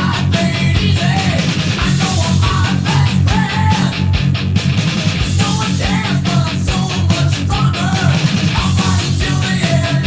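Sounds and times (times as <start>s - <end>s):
backing track: 0.0s - 10.0s
distorted guitar chugging riff: 0.0s - 10.0s.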